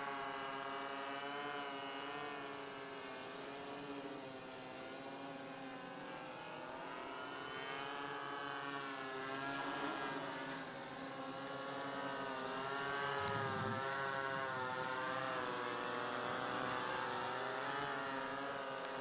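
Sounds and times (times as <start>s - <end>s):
quadcopter buzzing overhead: 0.0s - 19.0s.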